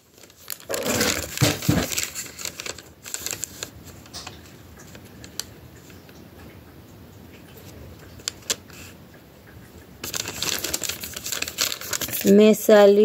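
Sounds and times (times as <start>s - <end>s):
paper receipt rustling and clicking: 0.0s - 6.2s, 7.3s - 12.7s.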